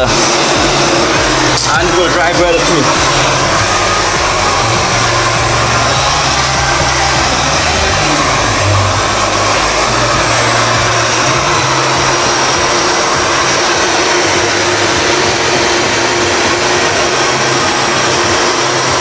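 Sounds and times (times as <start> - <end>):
heat gun blowing air: 0.0 - 19.0.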